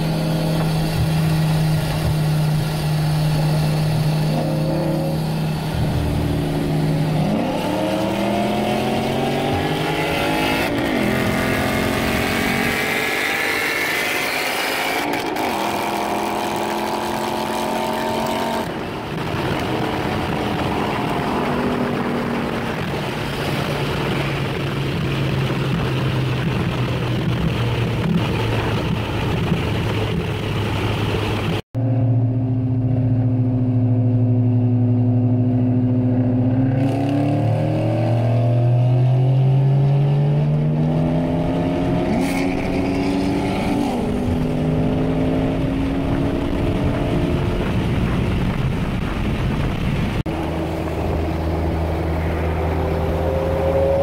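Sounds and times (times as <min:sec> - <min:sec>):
tyre and wind noise: 0:00.0 - 0:31.6, 0:35.1 - 0:54.0
car engine revving at full throttle: 0:00.0 - 0:54.0
engine cruising steadily: 0:00.0 - 0:54.0.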